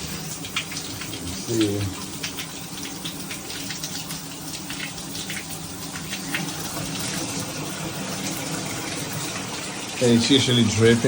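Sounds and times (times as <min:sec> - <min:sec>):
shower water running: 0:00.0 - 0:11.0.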